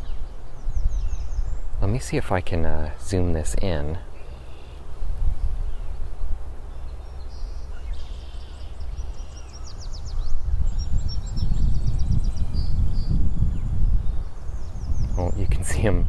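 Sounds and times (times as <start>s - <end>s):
low rumble on microphone: 0.0s - 16.0s
faint bird calls: 2.8s - 15.7s.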